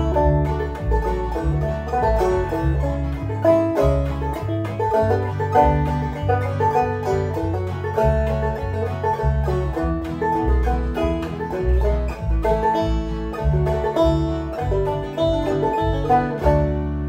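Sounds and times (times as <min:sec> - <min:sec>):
backing track with bass line: 0:00.0 - 0:17.0
banjo plucked melody: 0:00.0 - 0:17.0.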